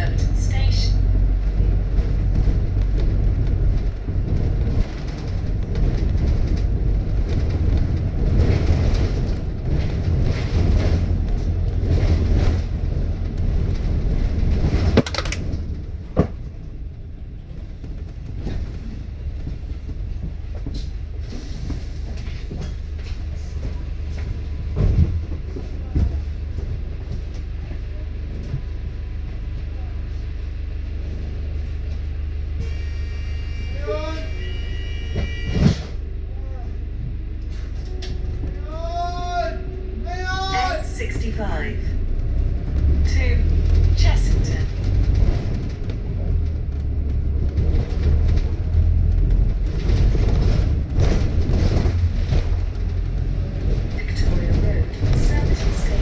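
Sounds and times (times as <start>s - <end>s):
bus body rattles: 0.0s - 32.6s, 35.1s - 36.2s, 36.8s - 56.0s
bus engine and tyres rumbling: 0.0s - 56.0s.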